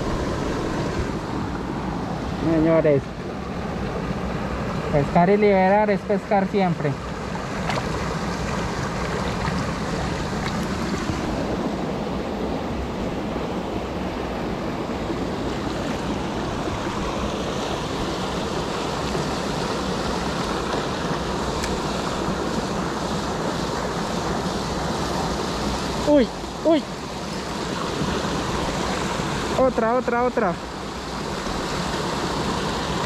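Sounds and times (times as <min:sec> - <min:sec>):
mountain creek water rushing: 0:00.0 - 0:33.0.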